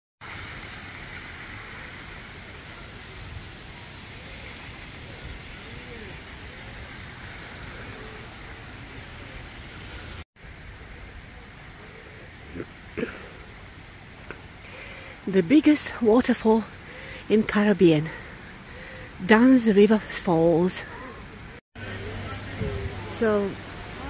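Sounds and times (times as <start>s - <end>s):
outdoor hiss: 0.2s - 24.0s.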